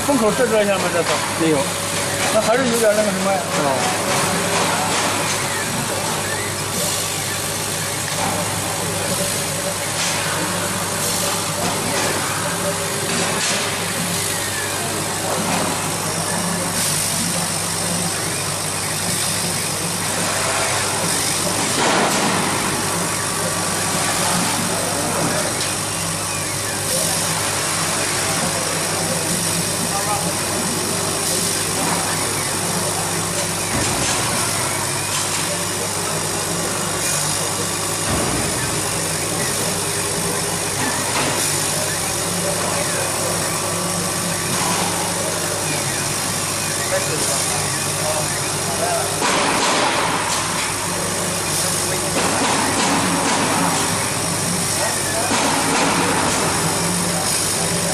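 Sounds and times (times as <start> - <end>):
laser cutter humming: 0.0 - 57.9.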